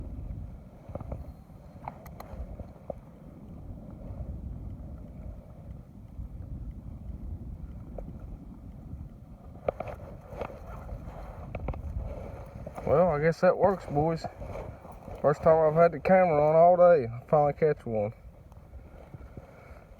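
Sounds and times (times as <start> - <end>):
wind rumbling on microphone: 0.0 - 19.9.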